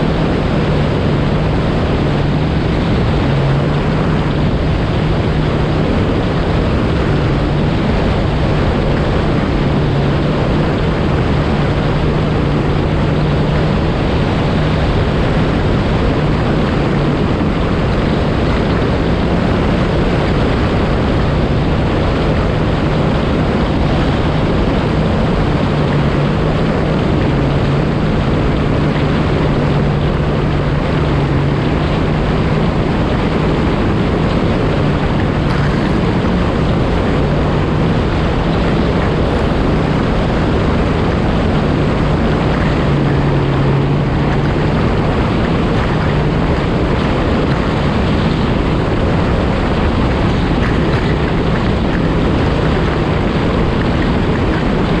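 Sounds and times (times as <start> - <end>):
personal watercraft engine running: 0.0 - 55.0
water noise from hull: 0.0 - 55.0
wind rush on microphone: 0.0 - 55.0.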